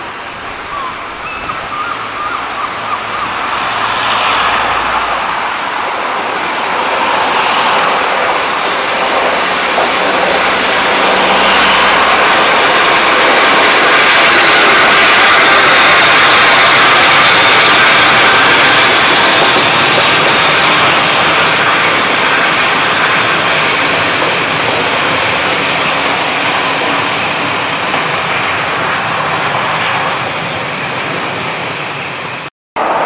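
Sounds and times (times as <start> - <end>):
train approaching: 0.0 - 33.0.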